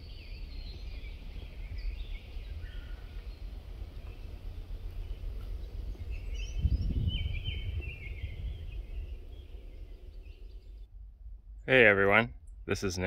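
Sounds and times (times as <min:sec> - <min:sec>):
small bird chirping: 0:00.0 - 0:10.9
low rumble: 0:00.0 - 0:13.0.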